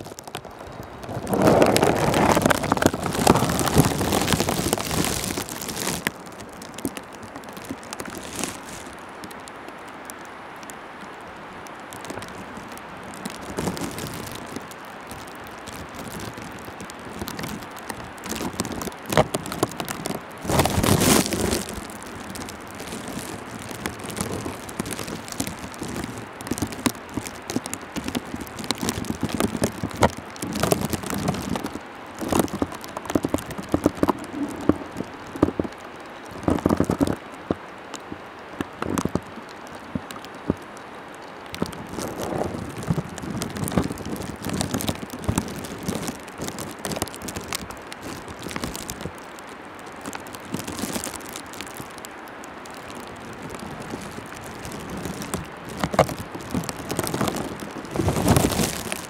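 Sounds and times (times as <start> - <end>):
wet snow pattering: 0.0 - 59.0.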